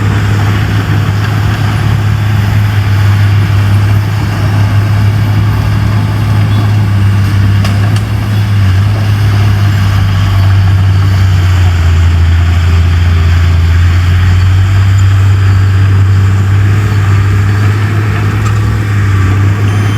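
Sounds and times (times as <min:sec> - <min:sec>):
bulldozer diesel engine running: 0:00.0 - 0:19.9.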